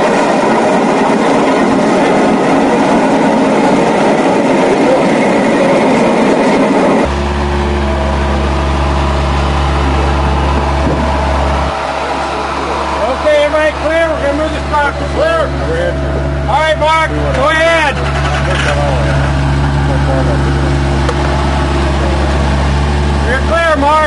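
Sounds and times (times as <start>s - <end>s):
low engine hum: 0.0s - 24.0s
vehicle road and engine rumble: 0.0s - 24.0s.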